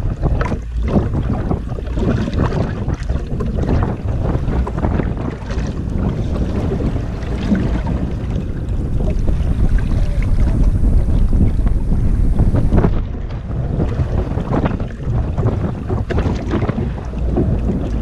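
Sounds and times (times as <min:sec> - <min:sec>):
water splashing against hull: 0:00.0 - 0:18.0
wind buffeting microphone: 0:00.0 - 0:18.0.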